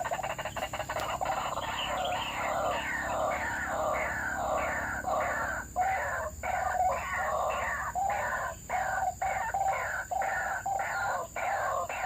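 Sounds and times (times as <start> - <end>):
waterhen croaking calls: 0.0 - 12.0.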